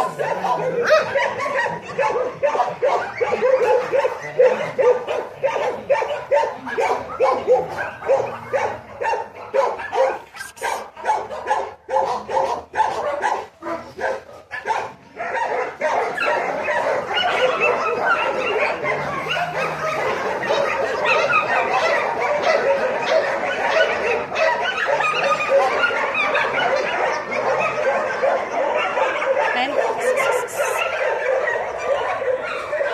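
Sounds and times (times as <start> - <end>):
dog barking: 0.0 - 32.9.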